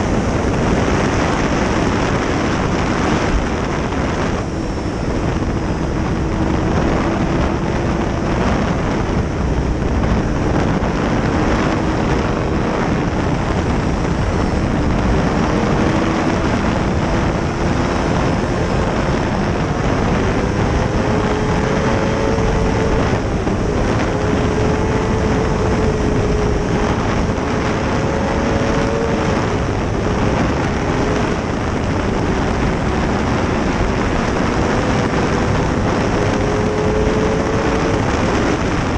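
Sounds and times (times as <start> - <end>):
motorcycle engine revving: 0.0 - 38.9
wind rush on microphone: 0.0 - 38.9.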